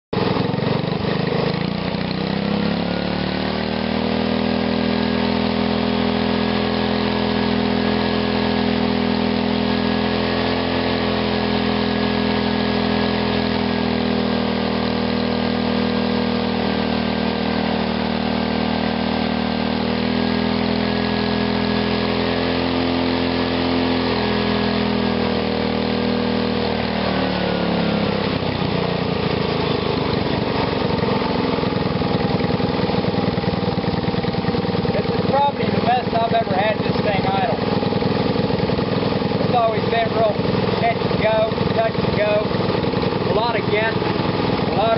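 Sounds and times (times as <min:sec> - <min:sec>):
small engine revving: 0:00.2 - 0:44.9.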